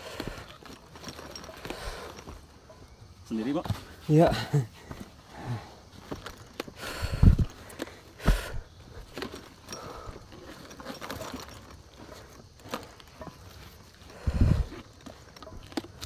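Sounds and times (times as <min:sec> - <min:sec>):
footsteps on mountain trail: 0:00.0 - 0:16.0.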